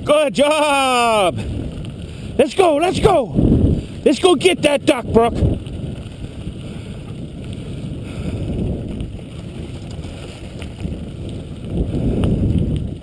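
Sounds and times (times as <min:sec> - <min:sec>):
wheels rumbling over gravel: 0:00.0 - 0:13.0
wind buffeting microphone: 0:00.0 - 0:13.0.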